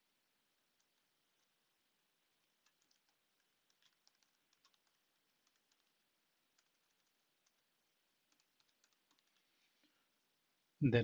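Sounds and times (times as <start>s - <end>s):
faint keyboard typing: 0.6s - 9.9s.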